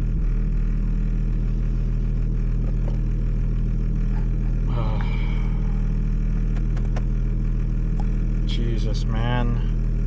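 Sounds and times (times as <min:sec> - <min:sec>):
car engine drone in cabin: 0:00.0 - 0:10.0.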